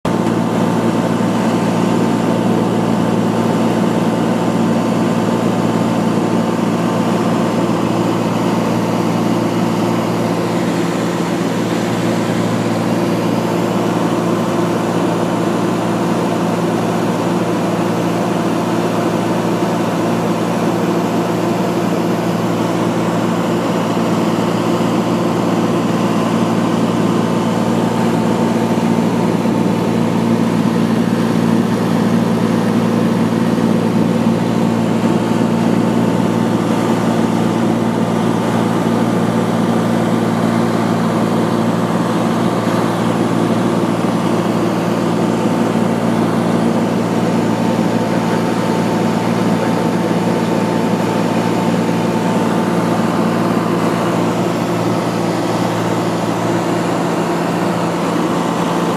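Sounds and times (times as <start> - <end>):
aircraft engine and propeller drone: 0.0 - 58.9.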